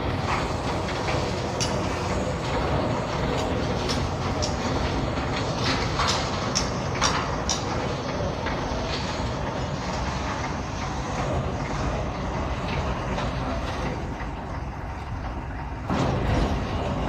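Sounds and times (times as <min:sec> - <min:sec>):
road roller engine running: 0:00.0 - 0:17.0.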